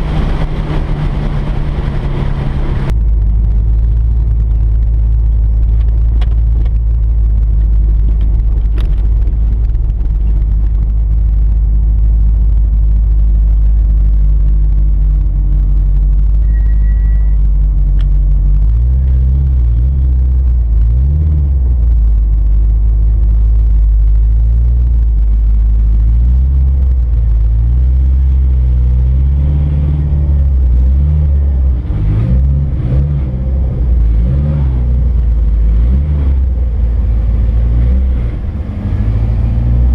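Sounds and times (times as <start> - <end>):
car engine and exhaust rumble: 0.0 - 39.9.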